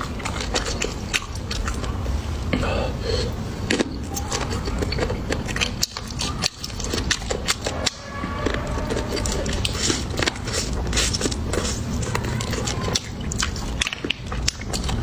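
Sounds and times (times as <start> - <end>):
chewing with mouth clicks: 0.0 - 2.6, 3.2 - 15.0.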